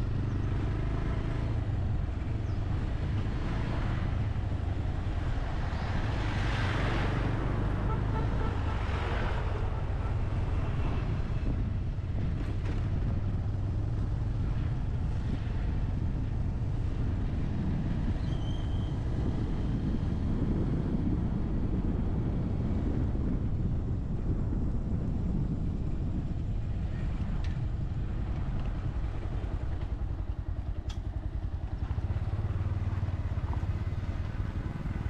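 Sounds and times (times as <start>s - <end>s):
motorcycle engine rumbling: 0.0s - 35.0s
wind noise: 0.0s - 35.0s.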